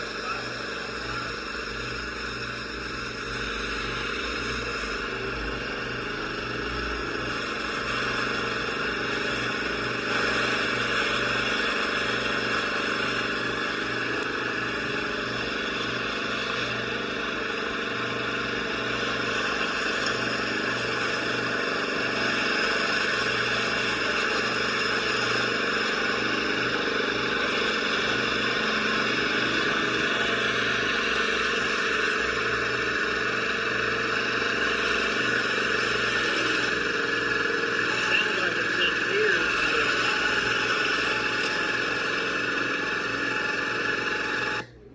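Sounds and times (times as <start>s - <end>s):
engine running: 0.0s - 44.9s
muffler rattling and grinding: 0.0s - 44.9s.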